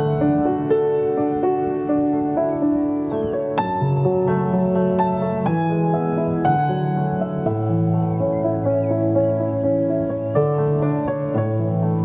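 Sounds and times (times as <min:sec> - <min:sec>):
slow sustained keyboard music: 0:00.0 - 0:12.0.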